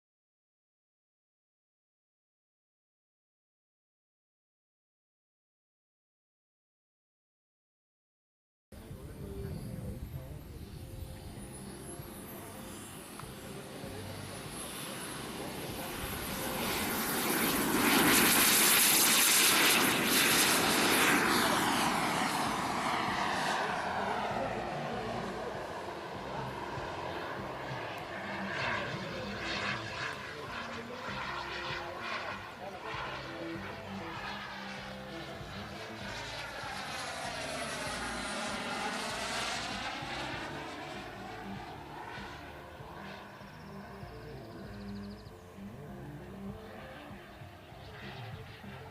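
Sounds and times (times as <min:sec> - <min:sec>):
model jet turbine whine passing: 0:08.8 - 0:48.9.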